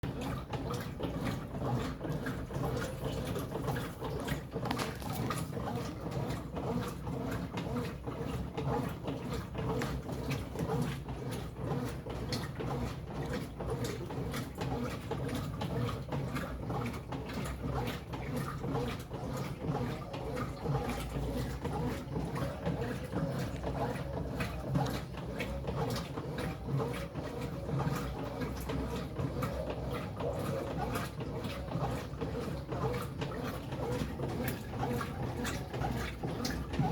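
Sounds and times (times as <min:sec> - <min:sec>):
washing machine motor hum: 0:00.0 - 0:36.9
clicks and swishes of churning load: 0:00.1 - 0:36.9.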